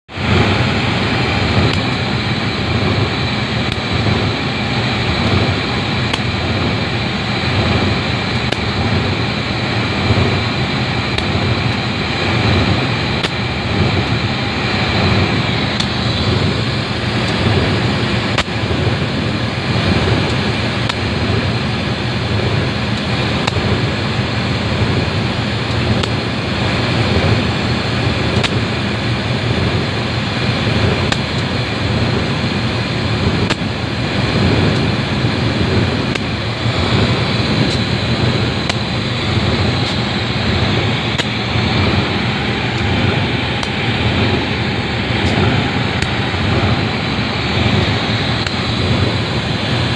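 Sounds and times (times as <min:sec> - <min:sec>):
cooling fans rushing: 0:00.0 - 0:49.9
faint high whine: 0:00.1 - 0:49.9
locomotive engine idling: 0:00.1 - 0:49.9.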